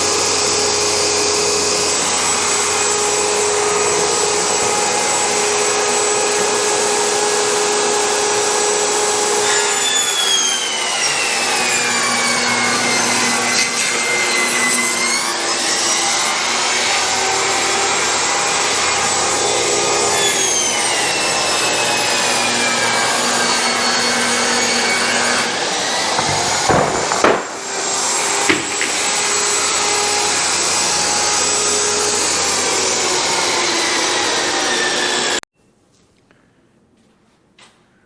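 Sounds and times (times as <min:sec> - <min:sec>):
power saw cutting plywood: 0:00.0 - 0:35.4.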